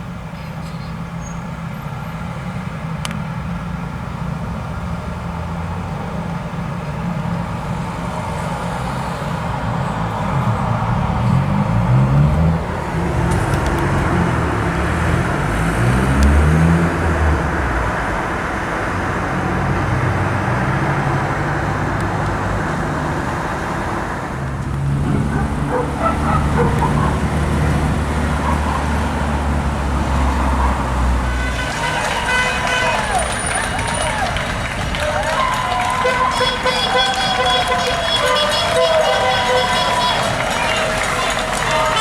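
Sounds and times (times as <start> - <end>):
cars driving past: 0.0 - 42.0
vehicle engine approaching: 1.0 - 42.0.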